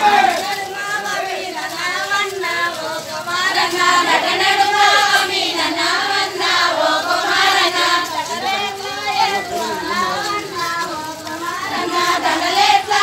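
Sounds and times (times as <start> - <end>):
crowd singing a chant-like song: 0.0 - 13.0.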